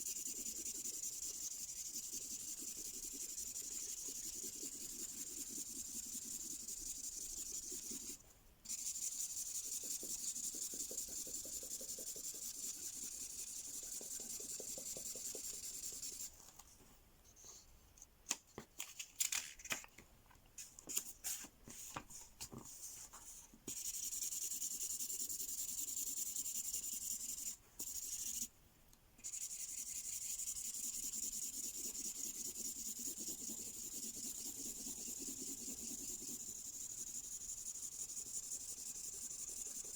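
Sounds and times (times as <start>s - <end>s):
marker pen rubbing on paper: 0.0s - 16.4s, 20.9s - 28.5s, 29.2s - 39.9s.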